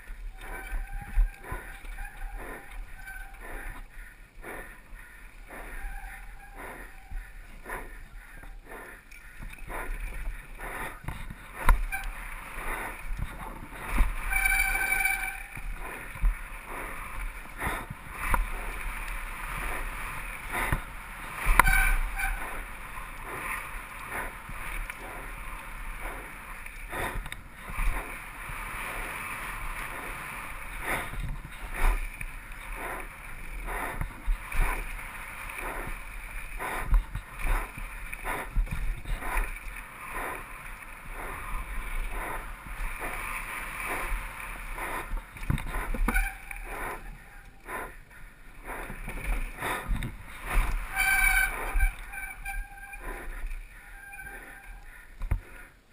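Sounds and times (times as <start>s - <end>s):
tyre and wind rush: 6.6s - 54.6s.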